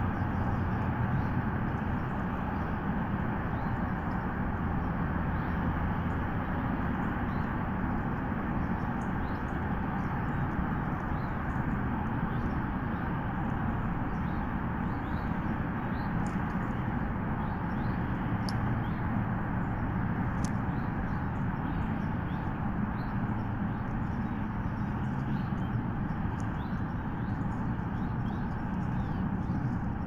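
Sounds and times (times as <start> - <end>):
small birds chirping: 0.0 - 30.0
steady rushing noise: 0.0 - 30.0.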